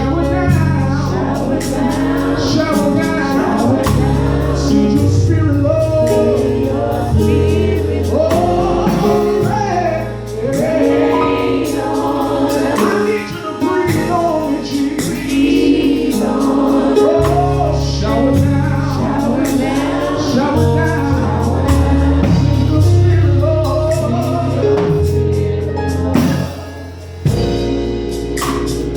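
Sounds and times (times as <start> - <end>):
gospel choir singing: 0.0 - 28.9
held bass notes: 0.0 - 28.9
instrumental backing: 0.0 - 28.9.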